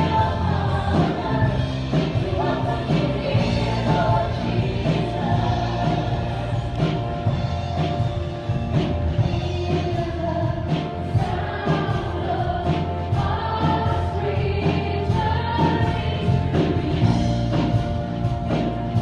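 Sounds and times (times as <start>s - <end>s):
keyboard and steady beat: 0.0s - 19.0s.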